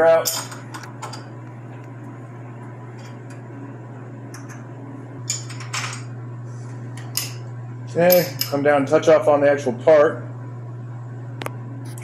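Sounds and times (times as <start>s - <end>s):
steady low machine hum: 0.0s - 12.0s.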